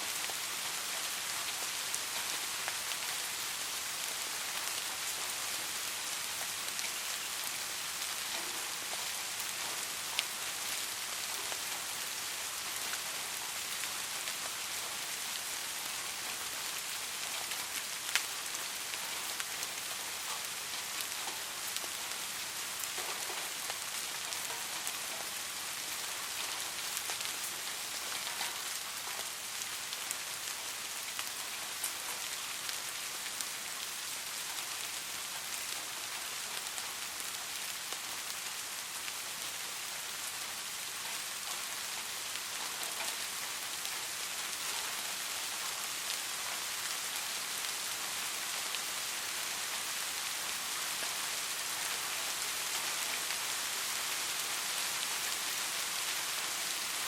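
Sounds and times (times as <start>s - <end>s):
soft rain hissing: 0.0s - 57.0s
small raindrop ticks: 0.1s - 57.0s.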